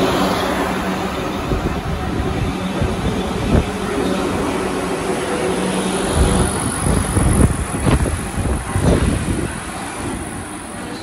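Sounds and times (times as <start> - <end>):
train mechanical hum: 0.0 - 11.0.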